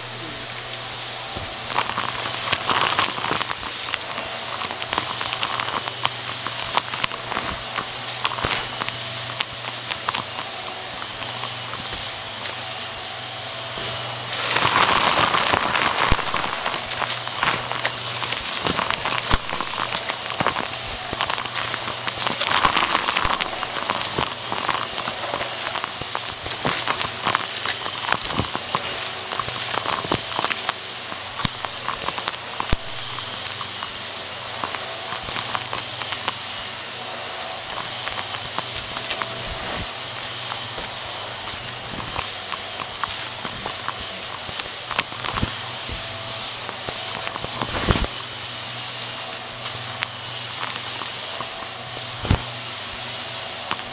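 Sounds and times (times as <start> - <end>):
debris crunching in vacuum: 0.0 - 53.9
vacuum motor humming: 0.0 - 53.9.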